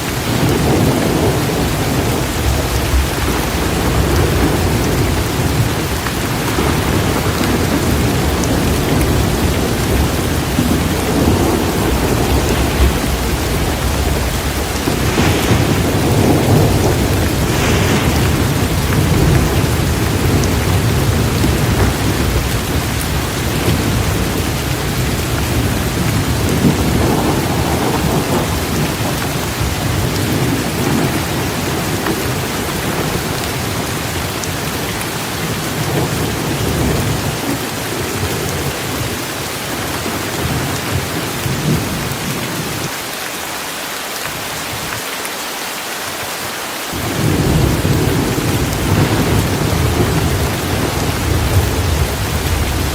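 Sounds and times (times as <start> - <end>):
thunder rumbling: 0.0 - 42.9, 46.9 - 52.9
heavy rain hissing: 0.0 - 52.9.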